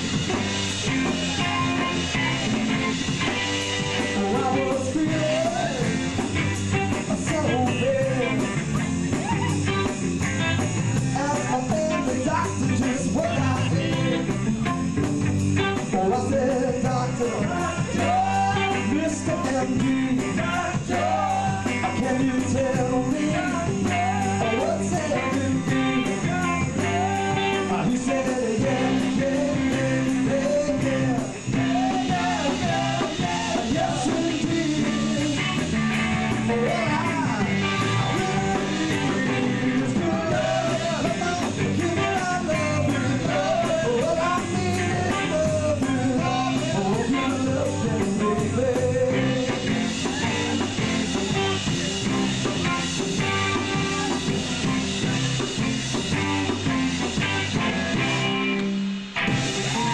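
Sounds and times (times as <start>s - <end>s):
bass guitar: 0.0s - 59.9s
drum kit: 0.0s - 59.9s
electric guitars: 0.0s - 59.9s
steady cymbal beat: 0.0s - 59.9s.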